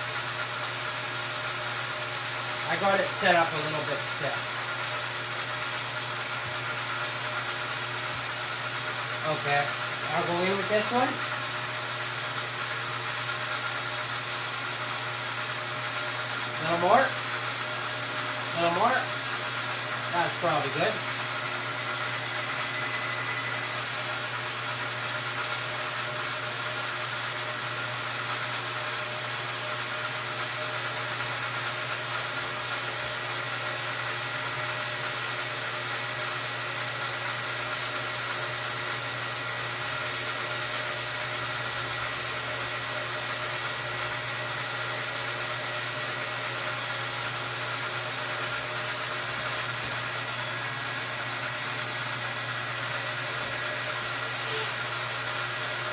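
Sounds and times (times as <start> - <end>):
metal lathe motor hum and whine: 0.0 - 55.9.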